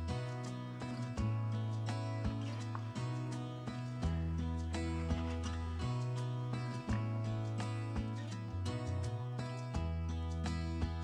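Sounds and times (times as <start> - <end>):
music with held notes and bass: 0.0 - 11.0.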